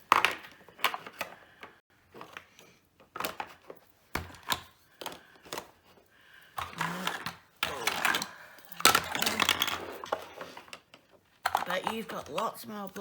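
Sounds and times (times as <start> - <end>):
toy blocks clicking and knocking: 0.0 - 13.0.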